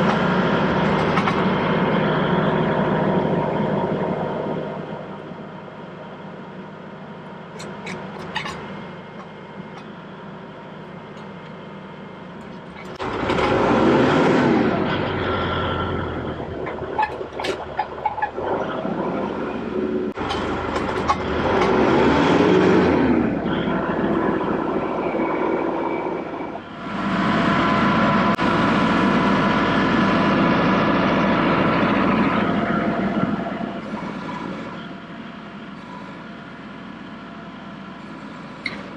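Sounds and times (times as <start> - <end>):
tractor engine revving: 0.0 - 5.2, 12.4 - 38.9.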